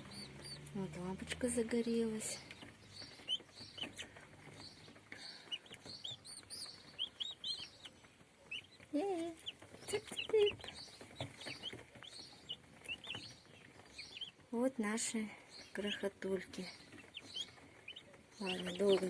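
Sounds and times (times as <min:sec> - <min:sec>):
turkey poults peeping: 0:02.2 - 0:14.5, 0:15.6 - 0:19.0.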